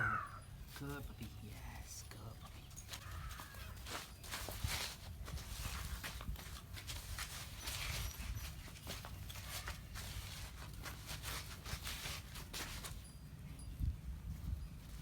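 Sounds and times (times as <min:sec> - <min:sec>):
puppies tapping and scraping: 0:00.7 - 0:13.3.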